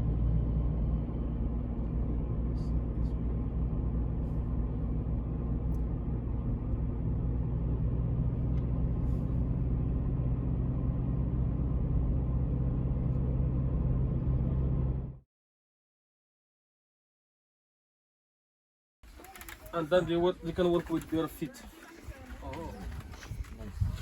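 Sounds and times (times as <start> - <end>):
vehicle engine rumble: 0.0 - 15.2, 19.0 - 24.0.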